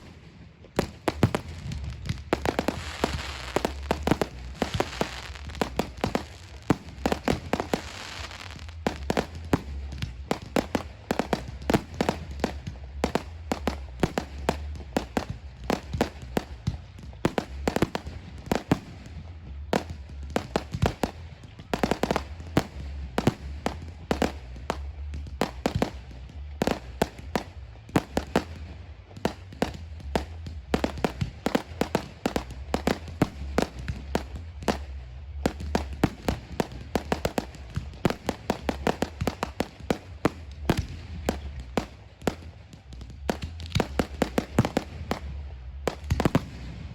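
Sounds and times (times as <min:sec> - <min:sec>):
firework bangs and crackles: 0:00.0 - 0:46.9
low rumble: 0:00.0 - 0:46.9.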